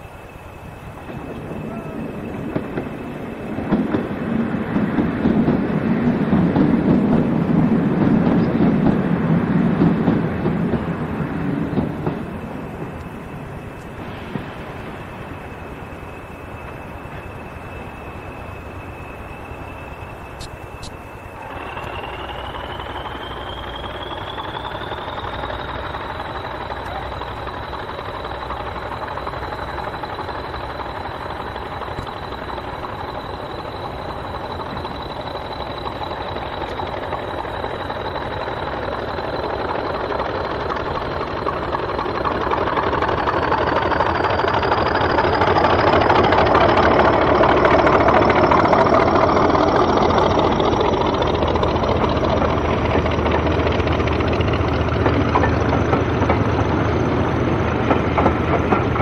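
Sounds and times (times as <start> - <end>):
diesel locomotive engine running: 0.0 - 59.0
turbocharger whistle: 11.0 - 58.8.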